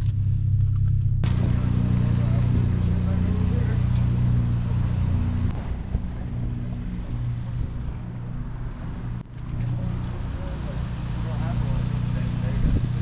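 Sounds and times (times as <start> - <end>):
engine humming: 0.0 - 13.0
street traffic: 0.0 - 13.0.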